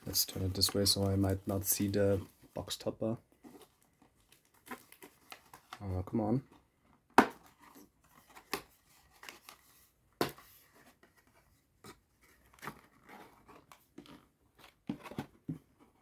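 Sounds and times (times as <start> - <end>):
cardboard and wrapper rustling: 0.0 - 16.0.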